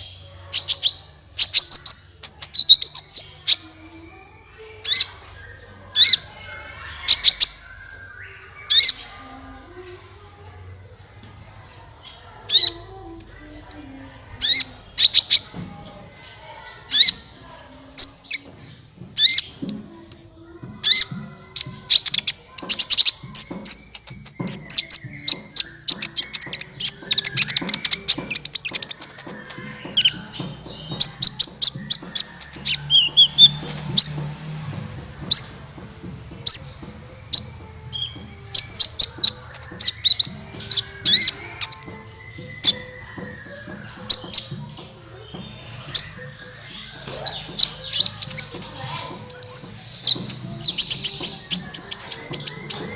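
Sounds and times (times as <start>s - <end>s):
bird chirping: 0.0s - 52.9s.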